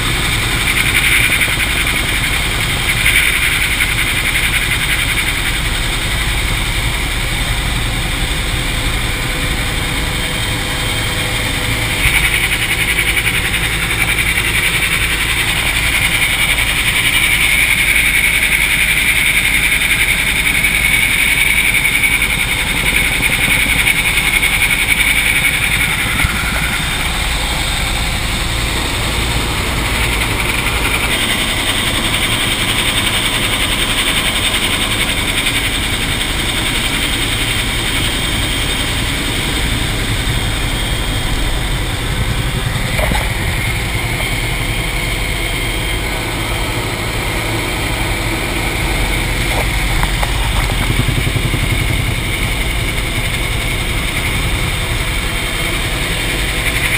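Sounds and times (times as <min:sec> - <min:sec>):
helicopter engine and rotor: 0:00.0 - 0:56.9.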